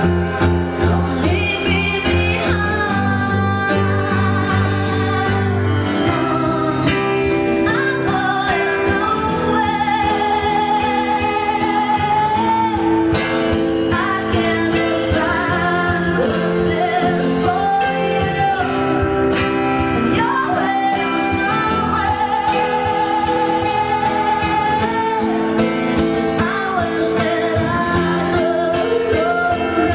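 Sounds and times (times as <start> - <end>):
acoustic guitar: 0.0 - 29.9
woman singing with vibrato: 0.0 - 29.9.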